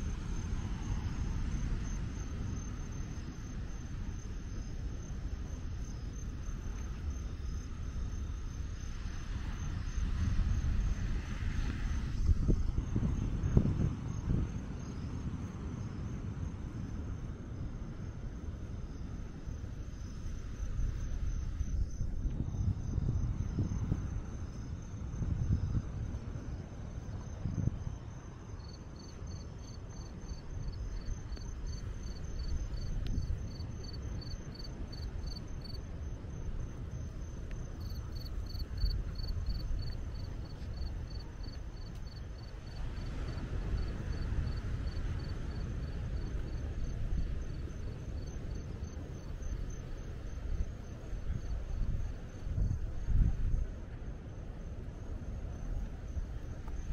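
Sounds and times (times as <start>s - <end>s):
crickets chirping: 0.0s - 56.9s
high insect trill: 0.0s - 56.9s.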